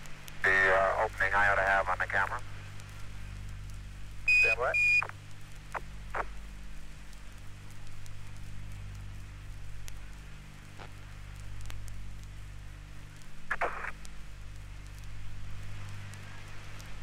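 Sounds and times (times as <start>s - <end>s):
radio hiss and low hum: 0.0s - 17.0s
vinyl clicks and crackle: 0.0s - 17.0s.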